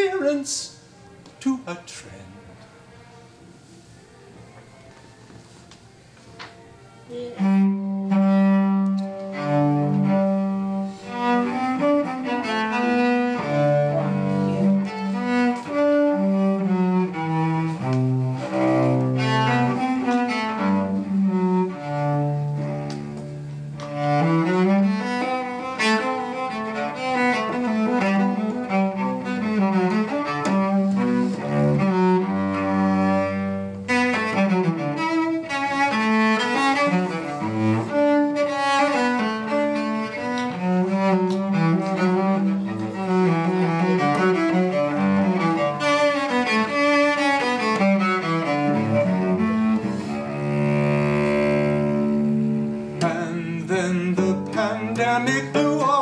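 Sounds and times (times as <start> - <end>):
bowed cello: 7.1 - 56.0.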